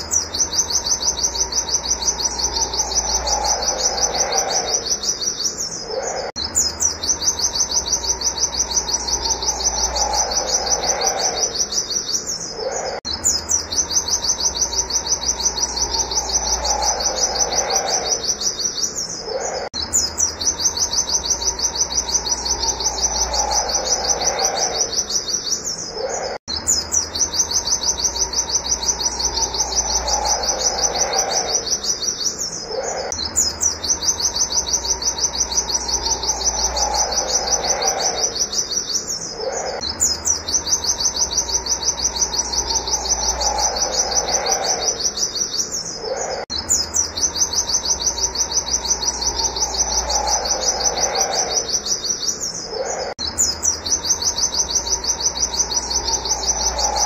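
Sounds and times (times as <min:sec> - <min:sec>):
bird singing fast high chirps: 0:00.0 - 0:57.0.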